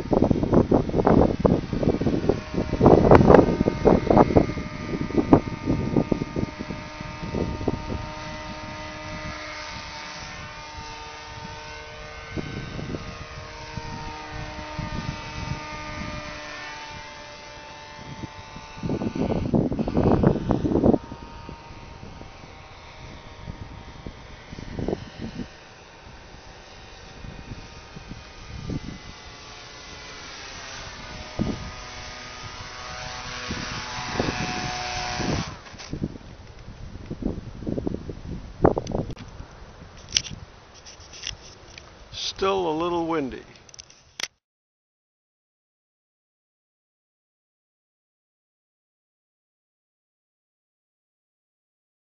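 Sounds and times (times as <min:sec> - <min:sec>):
wind buffeting microphone: 0:00.0 - 0:43.7
model airplane motor whining: 0:00.0 - 0:44.3.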